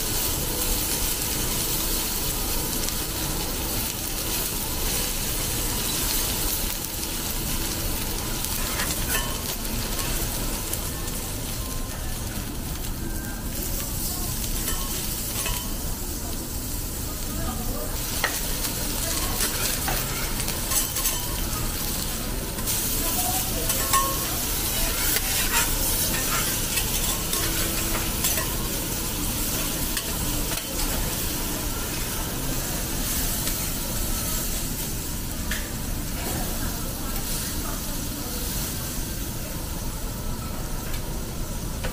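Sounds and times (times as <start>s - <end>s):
meat sizzling on griddle: 0.0s - 41.9s.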